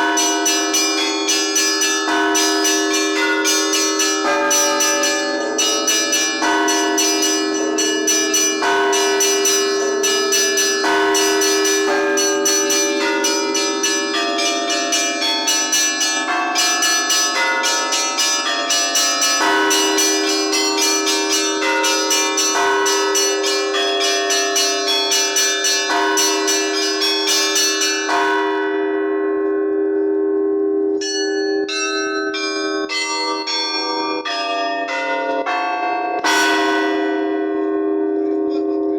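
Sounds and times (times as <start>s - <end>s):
deep bell humming: 0.0s - 38.9s
heavy bell strike: 0.0s - 38.9s
small church bells ringing: 0.0s - 38.9s.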